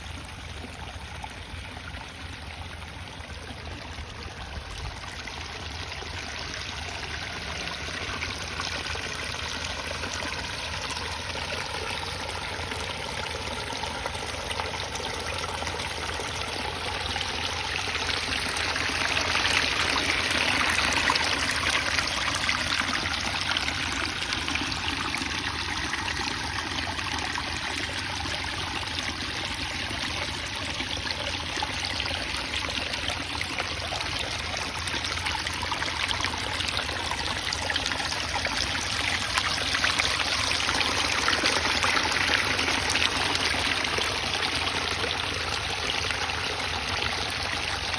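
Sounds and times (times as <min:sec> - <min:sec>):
waterfall splashing into pond: 0:03.3 - 0:47.9.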